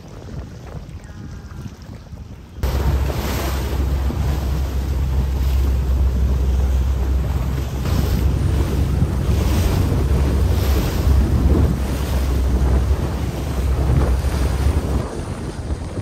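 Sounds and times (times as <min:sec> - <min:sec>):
water splashing along hull: 0:00.0 - 0:16.0
wind buffeting microphone: 0:00.0 - 0:16.0.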